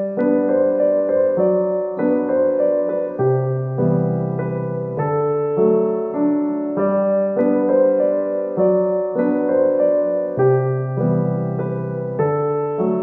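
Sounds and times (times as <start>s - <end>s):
gentle piano tune: 0.0s - 13.0s.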